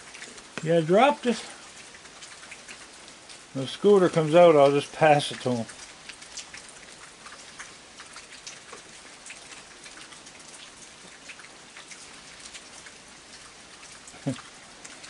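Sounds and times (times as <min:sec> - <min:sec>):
heavy rain: 0:00.0 - 0:15.0
raindrops ticking close by: 0:00.0 - 0:15.0.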